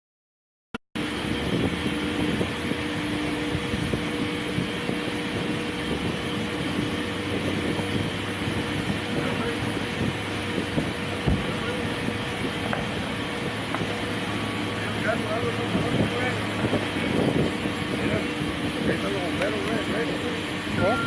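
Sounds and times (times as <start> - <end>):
mechanical rumble with low hum: 1.0 - 21.0.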